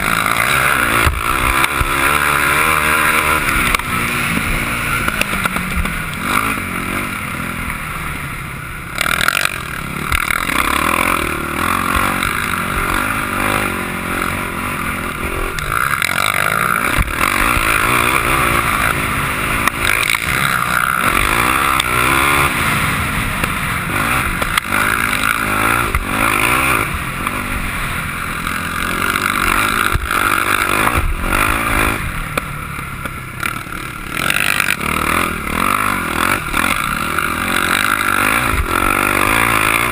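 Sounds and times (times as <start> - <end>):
constant rushing noise: 0.0 - 39.9
quad engine revving: 0.0 - 39.9.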